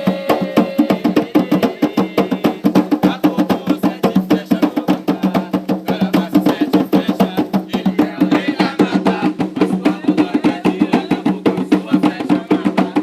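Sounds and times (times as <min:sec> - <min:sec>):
hand drums fast rhythm: 0:00.0 - 0:13.0.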